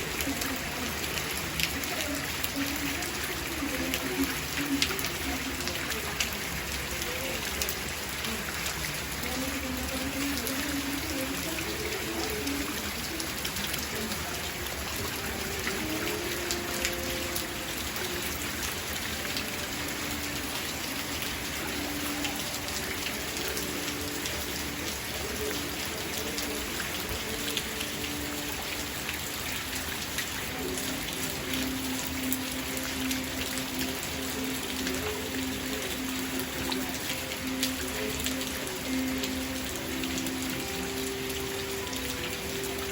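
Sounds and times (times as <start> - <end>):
raindrops ticking on hard surfaces: 0.0 - 42.9
steady rain falling: 0.0 - 42.9.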